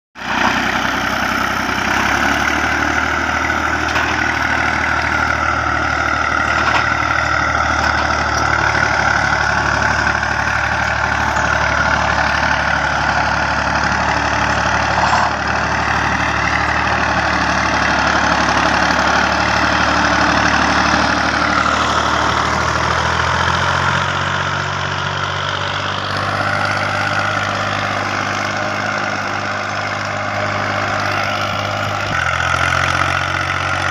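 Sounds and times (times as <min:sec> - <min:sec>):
tractor diesel engine under load: 0:00.2 - 0:33.9.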